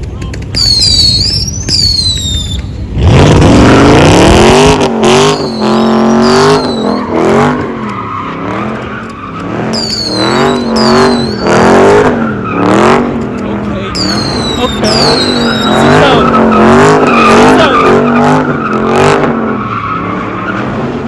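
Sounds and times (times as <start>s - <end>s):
tyres squealing and skidding: 0.5s - 21.0s
car engine revving hard: 2.9s - 13.2s, 14.0s - 21.0s.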